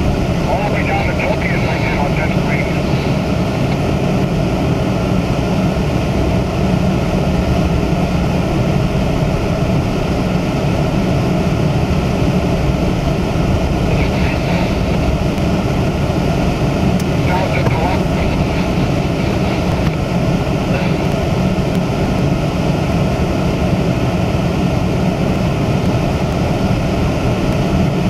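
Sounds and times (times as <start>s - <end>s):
car engine rumble: 0.0s - 28.0s.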